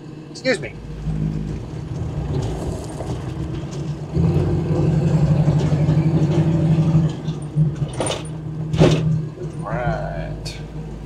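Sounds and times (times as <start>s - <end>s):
car engine running: 0.4s - 11.0s.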